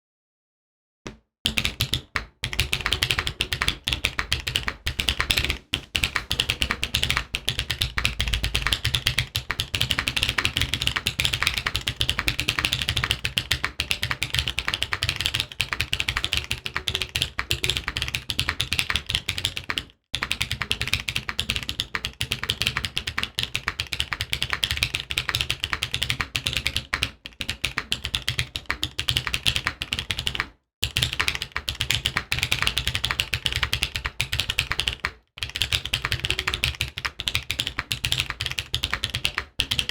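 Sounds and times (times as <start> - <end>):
mechanical keyboard typing clacks: 1.5 - 39.9.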